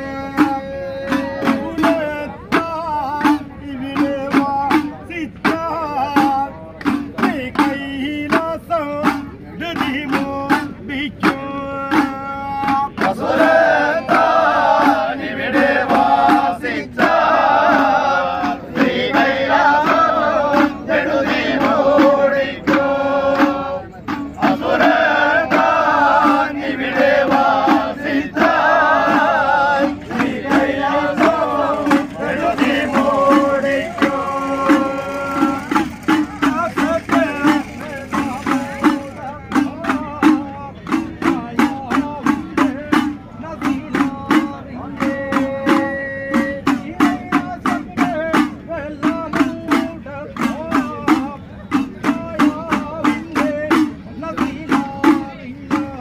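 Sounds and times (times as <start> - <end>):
group of men singing: 0.0 - 56.0
hand drums beaten with palm: 0.0 - 56.0.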